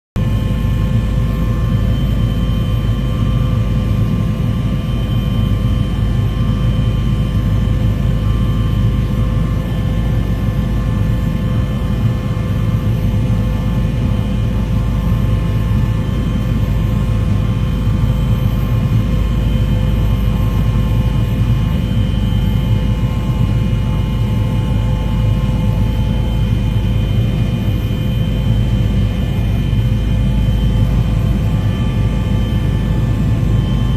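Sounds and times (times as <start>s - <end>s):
aircraft engine drone: 0.2s - 33.9s
constant whining tones: 0.2s - 33.9s.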